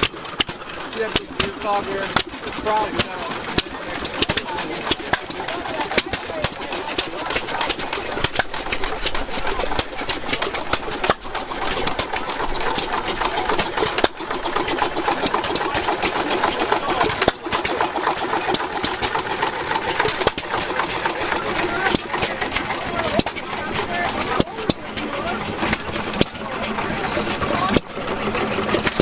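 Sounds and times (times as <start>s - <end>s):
engine mechanical clatter: 0.0s - 29.0s.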